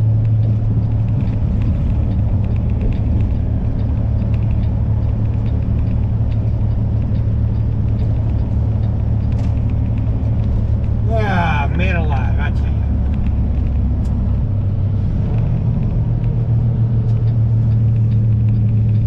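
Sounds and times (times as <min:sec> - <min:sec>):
diesel truck engine droning: 0:00.0 - 0:19.0
road rumble: 0:00.0 - 0:19.0.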